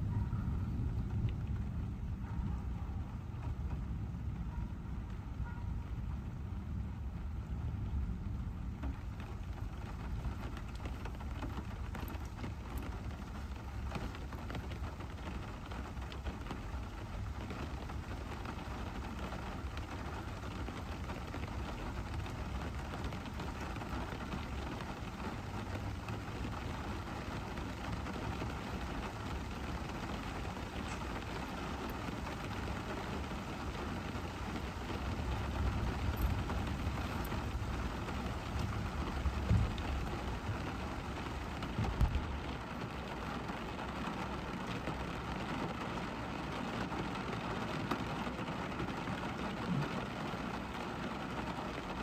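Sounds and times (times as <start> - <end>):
rain drops hitting a car: 0.0 - 52.0.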